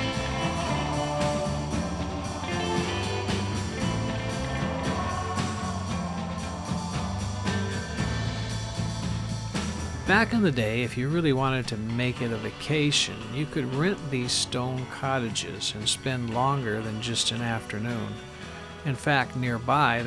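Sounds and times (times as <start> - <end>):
rock music with guitar and drums: 0.0 - 20.0.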